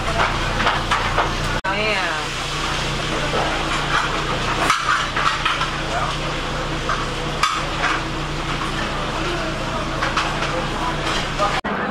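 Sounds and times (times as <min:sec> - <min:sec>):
clatter of pots and utensils: 0:00.0 - 0:01.6, 0:02.7 - 0:11.6.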